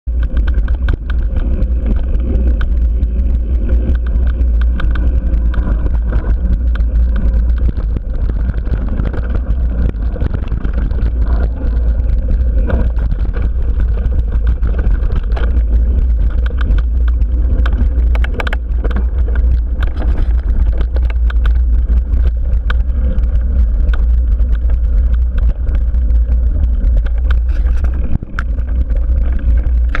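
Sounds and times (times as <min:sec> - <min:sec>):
wind buffeting microphone: 0:00.0 - 0:30.0
bike rattling and knocking: 0:00.1 - 0:30.0.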